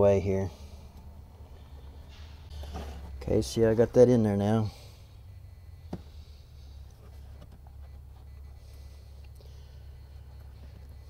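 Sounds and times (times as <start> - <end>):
handling wires: 0.0 - 4.9, 6.8 - 11.0
low steady rumble: 0.0 - 11.0.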